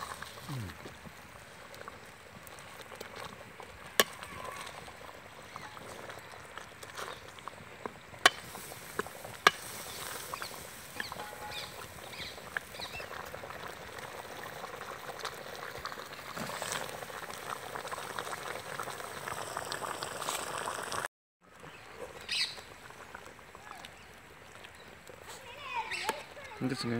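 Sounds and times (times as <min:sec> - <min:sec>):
thick gravy bubbling in a pot: 0:00.0 - 0:26.9.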